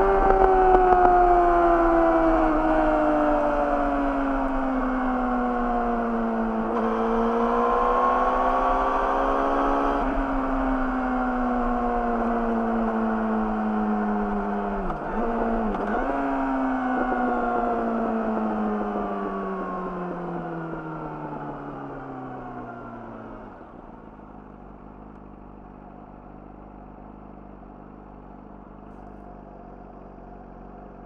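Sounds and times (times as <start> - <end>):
motorcycle engine revving: 0.0 - 26.1.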